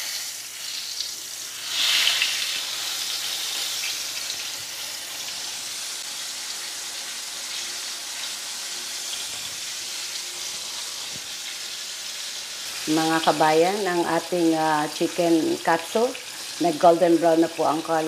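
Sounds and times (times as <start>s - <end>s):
cutlet deep-frying in hot oil: 0.0s - 18.0s.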